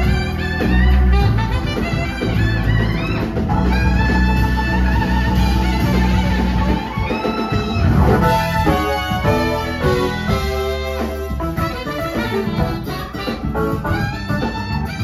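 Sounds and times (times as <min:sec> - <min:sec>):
drums: 0:00.0 - 0:15.0
electric bass: 0:00.0 - 0:15.0
keyboard: 0:00.0 - 0:15.0
saxophone solo: 0:00.0 - 0:15.0.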